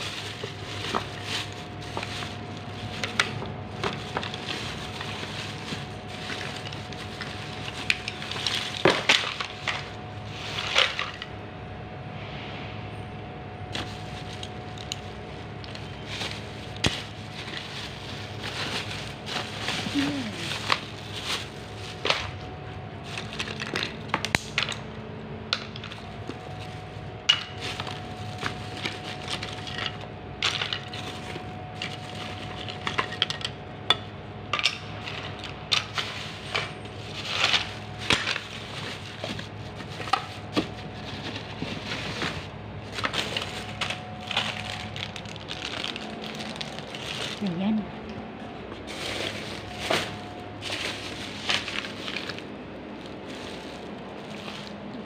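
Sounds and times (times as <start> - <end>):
plastic bags rustling: 0.0 - 11.4, 13.6 - 55.0.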